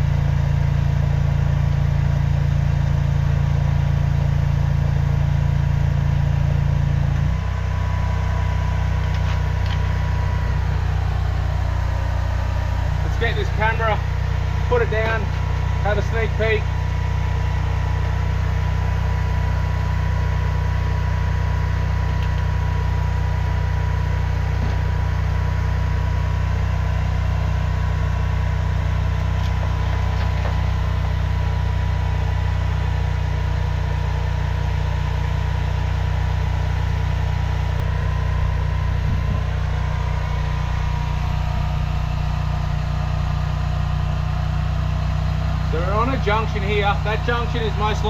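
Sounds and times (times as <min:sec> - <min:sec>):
engine humming steadily: 0:00.0 - 0:48.0.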